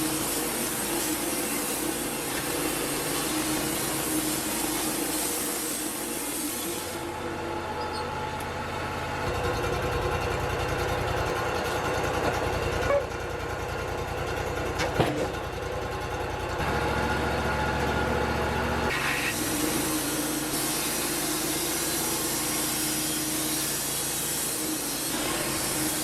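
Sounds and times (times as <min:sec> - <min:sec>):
sawmill engine running: 0:00.0 - 0:26.0.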